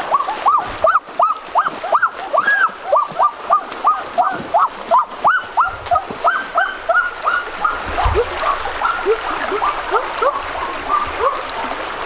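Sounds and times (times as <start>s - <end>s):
rushing stream water: 0.0s - 12.0s
lower yelps: 0.1s - 11.5s.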